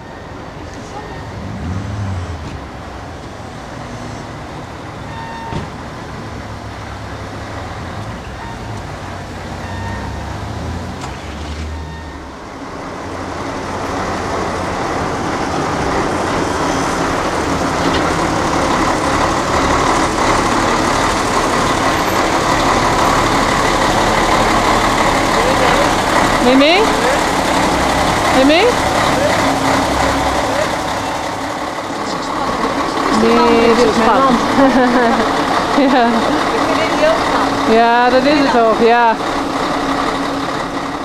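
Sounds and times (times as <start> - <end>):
truck diesel engine reversing: 0.0 - 41.0.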